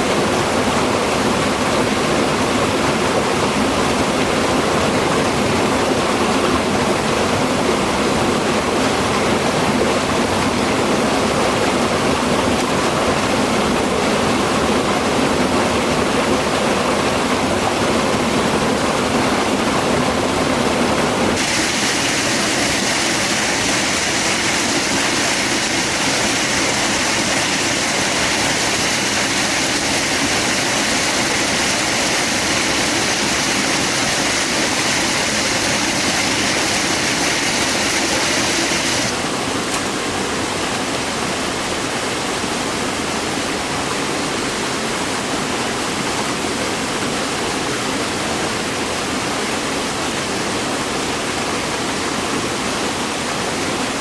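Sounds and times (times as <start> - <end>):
rushing mountain stream: 0.0 - 54.0.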